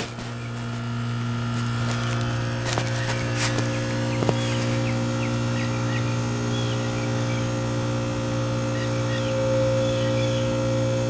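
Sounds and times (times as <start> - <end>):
heat pump compressor humming: 0.0 - 11.0.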